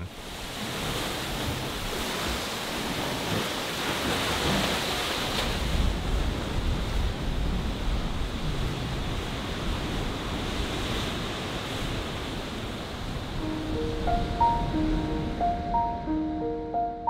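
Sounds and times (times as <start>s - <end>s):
wind on microphone: 0.0s - 16.1s
ocean surf crashing on rocks: 0.0s - 16.2s.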